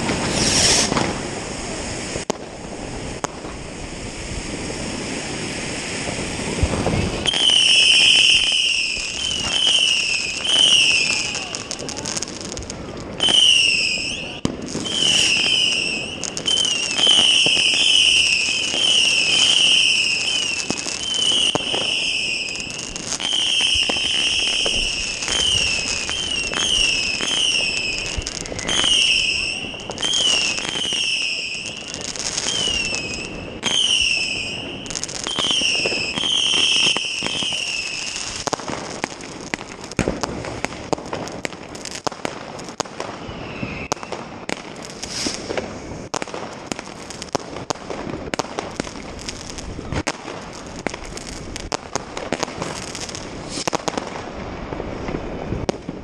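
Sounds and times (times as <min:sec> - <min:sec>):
firework bangs and crackles: 0:00.0 - 0:56.0
firework whistles: 0:00.0 - 0:56.0.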